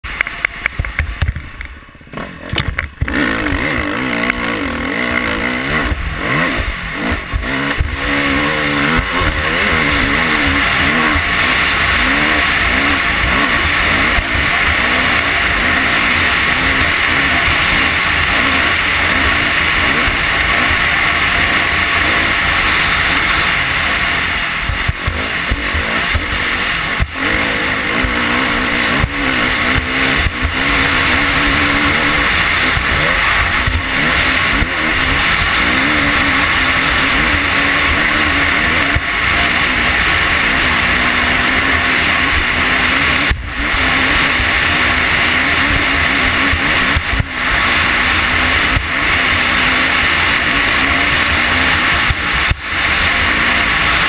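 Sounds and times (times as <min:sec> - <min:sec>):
dirt bike engine revving: 0:02.0 - 0:54.0.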